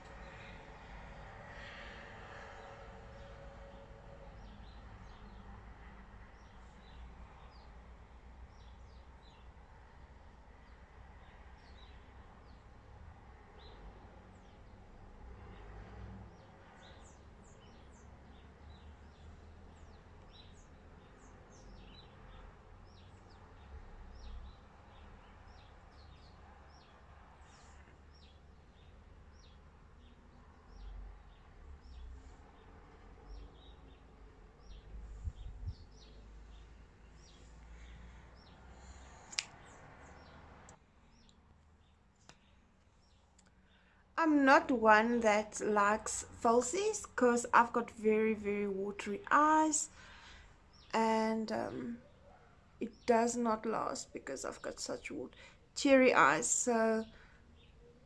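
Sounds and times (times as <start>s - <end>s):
birds chirping faintly: 0.0s - 58.0s.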